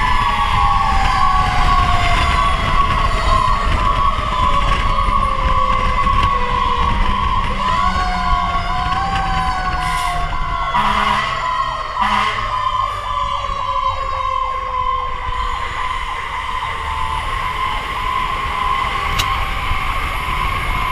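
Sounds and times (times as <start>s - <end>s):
wind noise: 0.0s - 11.4s, 12.0s - 20.9s
fire engine siren wailing: 0.0s - 20.9s.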